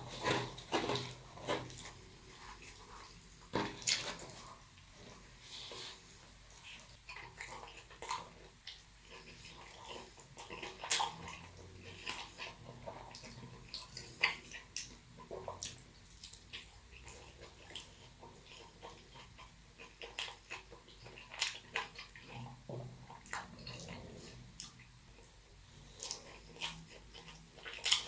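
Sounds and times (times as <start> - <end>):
person chewing with wet smacks: 0.0 - 28.0.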